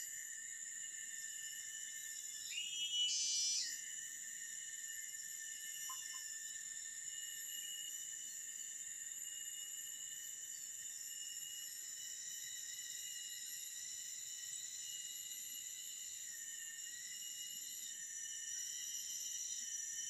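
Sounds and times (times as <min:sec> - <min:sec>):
insect chorus ringing: 0:00.0 - 0:20.0
loud insect call: 0:00.0 - 0:20.0.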